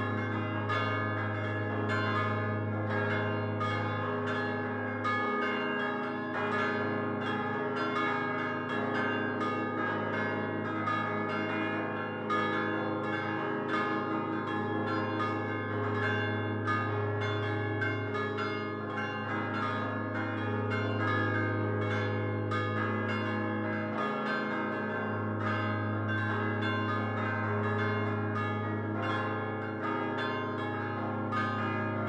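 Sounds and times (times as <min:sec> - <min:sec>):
church bells pealing: 0:00.0 - 0:32.0.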